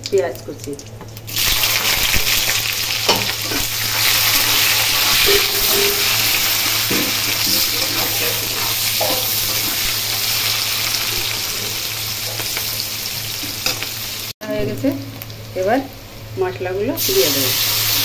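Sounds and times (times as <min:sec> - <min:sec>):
onions sizzling in hot oil: 0:00.1 - 0:18.0.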